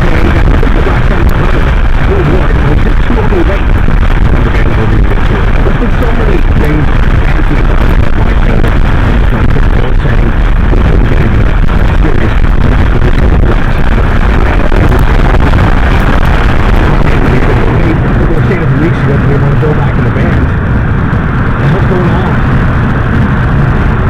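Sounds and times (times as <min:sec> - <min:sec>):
car cabin highway noise: 0:00.0 - 0:24.0.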